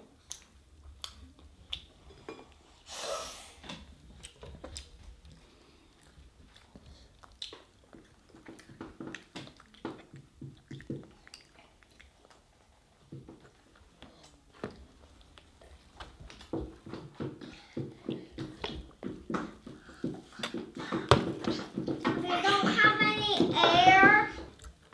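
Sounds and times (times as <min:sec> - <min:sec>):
toddler chewing and lip smacks: 0:00.1 - 0:02.8, 0:03.9 - 0:22.0, 0:24.4 - 0:24.9.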